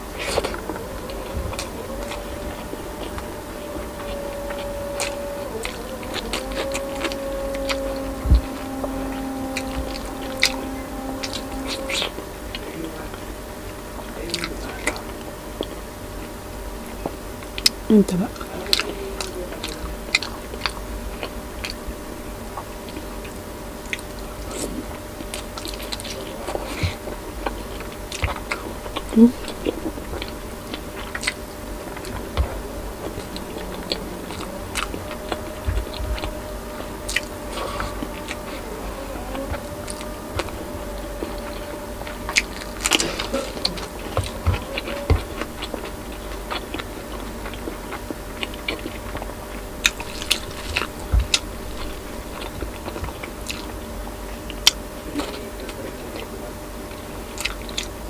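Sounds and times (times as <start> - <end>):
close chewing and mouth smacks: 0.0 - 58.0.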